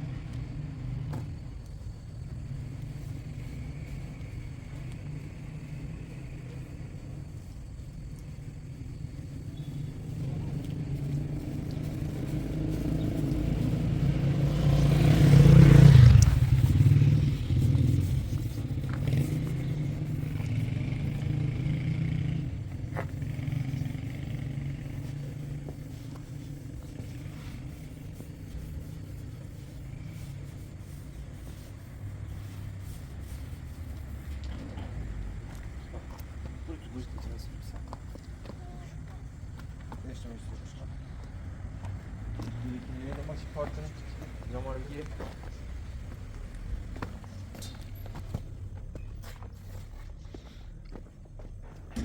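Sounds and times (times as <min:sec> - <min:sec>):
motor vehicle passing: 0:00.0 - 0:52.0.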